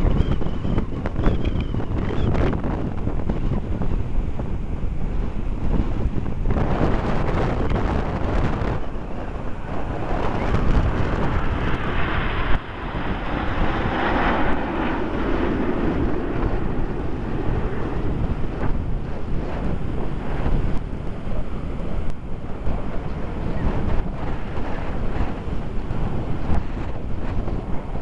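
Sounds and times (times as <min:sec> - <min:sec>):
jet aircraft passing: 0:00.0 - 0:28.0
wind buffeting microphone: 0:00.0 - 0:28.0.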